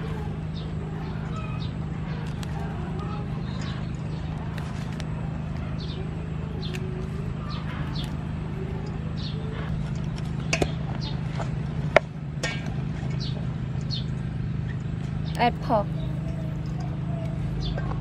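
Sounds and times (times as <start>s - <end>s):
birds chirping: 0.0s - 18.0s
low hum: 0.0s - 18.0s.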